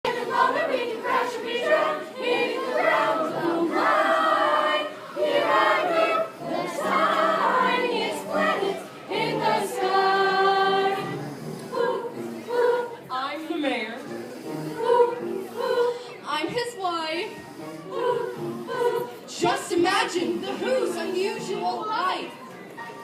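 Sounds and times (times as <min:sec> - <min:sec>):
choir singing: 0:00.0 - 0:13.1, 0:14.3 - 0:16.2, 0:17.3 - 0:21.7.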